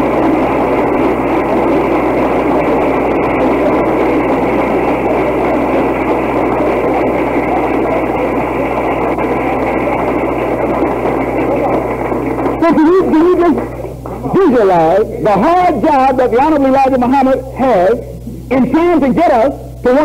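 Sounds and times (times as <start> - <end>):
low hum: 0.0 - 20.0
tape hiss: 0.0 - 20.0.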